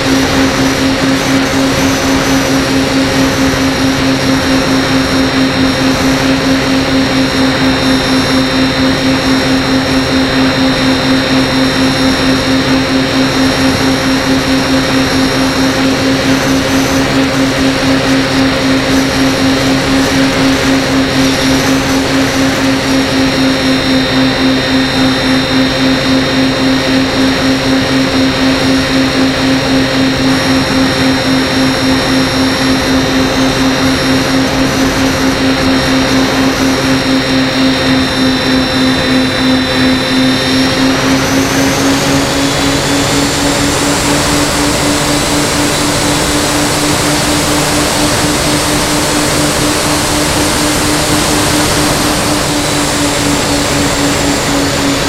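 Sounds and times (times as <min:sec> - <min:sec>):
aircraft engine drone: 0:00.0 - 0:55.0
propeller high whine: 0:00.0 - 0:55.0.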